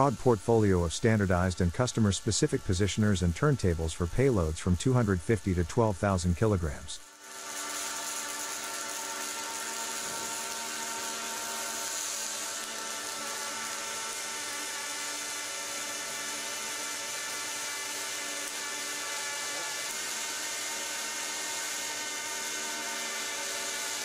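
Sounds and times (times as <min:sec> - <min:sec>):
welding arc buzzing hum: 0:00.0 - 0:24.0.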